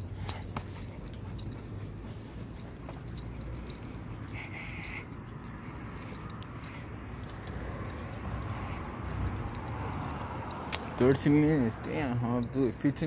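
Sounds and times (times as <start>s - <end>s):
steady low rumble: 0.0s - 12.9s
chain collar jingling: 0.0s - 13.0s.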